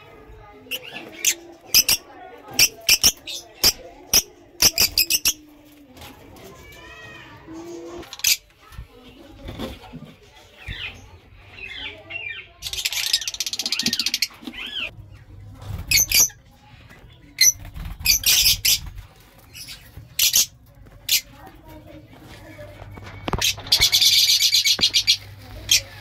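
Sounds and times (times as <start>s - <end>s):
birds chirping and chattering: 0.0s - 26.0s.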